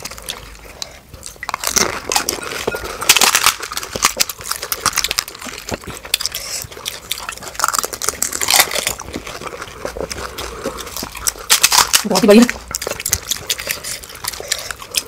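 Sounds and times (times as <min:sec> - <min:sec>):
crisp shells crunching while eating: 0:00.0 - 0:15.0
wet slurping: 0:01.9 - 0:15.0.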